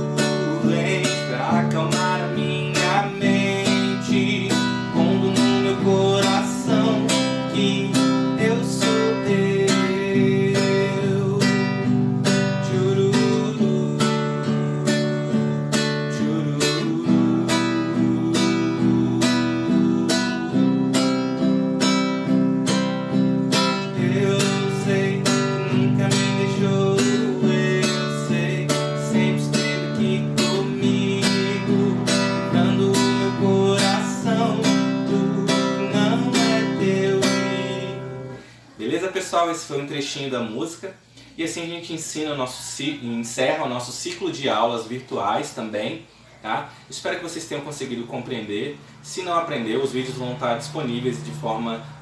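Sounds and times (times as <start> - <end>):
acoustic guitar strumming: 0.0 - 39.0, 47.2 - 52.0.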